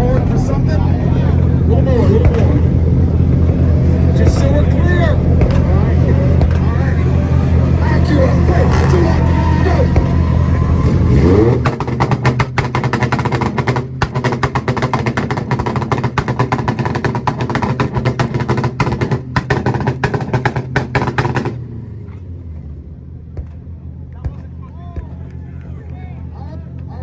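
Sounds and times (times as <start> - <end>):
exhaust pops and bangs: 0.0 - 22.2, 23.2 - 25.7.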